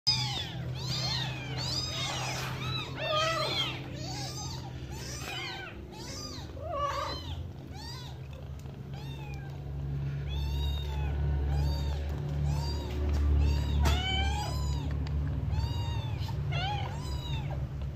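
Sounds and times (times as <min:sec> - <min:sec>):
kittens and cat meowing: 0:00.0 - 0:17.9.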